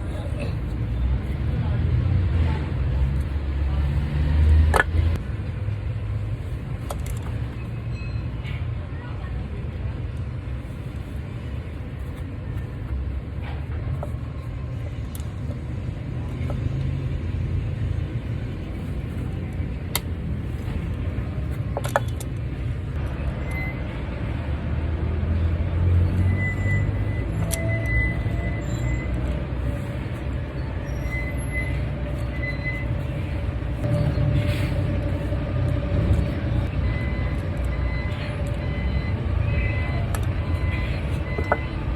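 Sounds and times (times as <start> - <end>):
motor vehicle rumble: 0.0 - 41.9.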